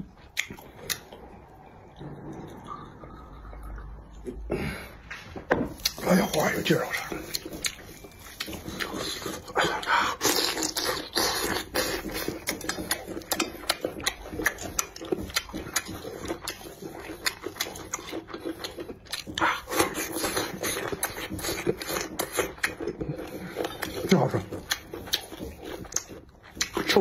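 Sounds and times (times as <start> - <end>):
close-miked chewing and sucking: 0.0 - 4.5, 5.7 - 27.0.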